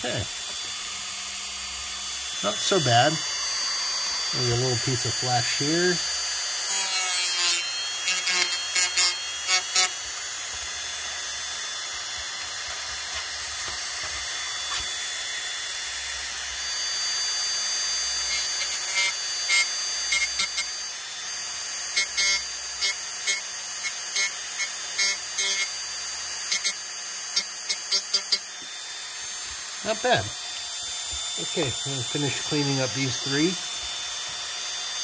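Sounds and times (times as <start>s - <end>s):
rotary tool whining: 0.0s - 35.0s.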